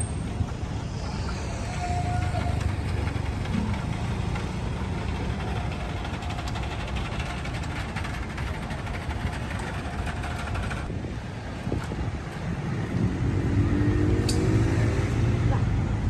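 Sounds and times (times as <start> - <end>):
traffic engines rumbling: 0.0 - 16.0.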